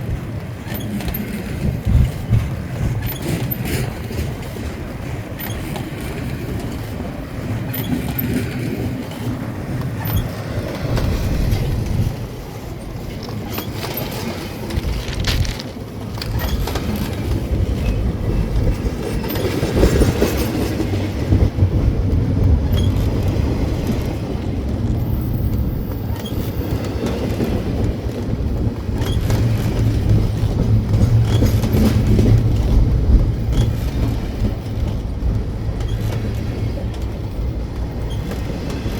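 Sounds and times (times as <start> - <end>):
freight train wheels rumbling: 0.0 - 38.9
train clicks: 0.0 - 38.9.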